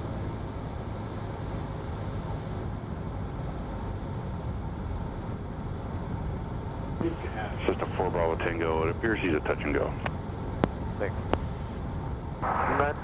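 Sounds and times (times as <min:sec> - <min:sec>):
airplane propeller engine droning: 0:00.0 - 0:13.0.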